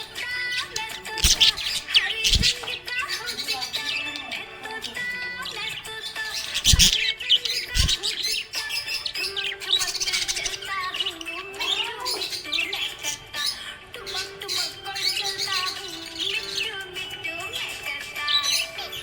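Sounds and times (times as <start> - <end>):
background music: 0.0 - 19.0
budgerigars chirping: 0.0 - 19.0.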